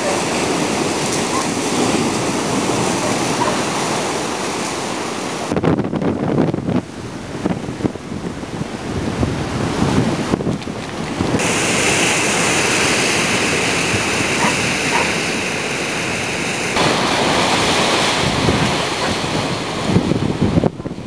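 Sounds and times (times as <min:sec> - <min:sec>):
surf breaking on rocky shore: 0:00.0 - 0:21.0
wind buffeting microphone: 0:00.0 - 0:21.0.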